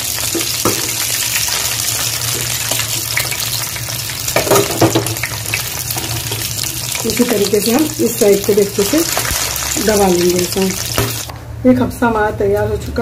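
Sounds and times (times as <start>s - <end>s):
meat sizzling in oil: 0.0s - 11.3s.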